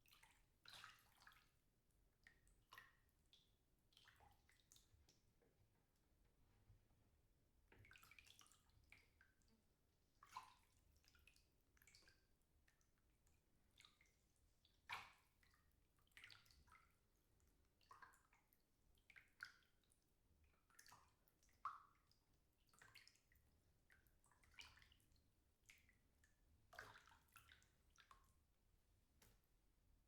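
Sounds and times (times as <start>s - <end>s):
water splashing in a bathtub: 0.0s - 30.0s.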